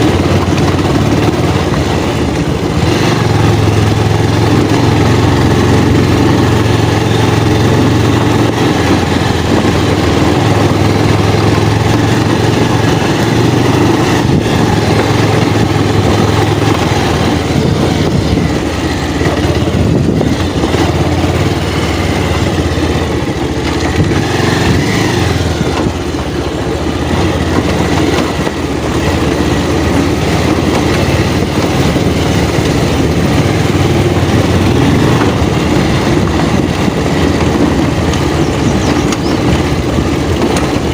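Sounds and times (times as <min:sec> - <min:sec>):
heavy wind noise: 0:00.0 - 0:40.9
motorcycle engine running: 0:00.0 - 0:40.9
road noise: 0:00.0 - 0:40.9.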